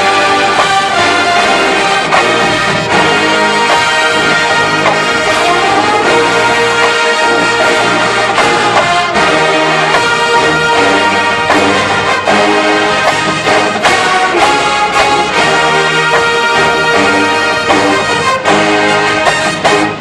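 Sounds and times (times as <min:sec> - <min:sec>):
brass band chords: 0:00.0 - 0:20.0.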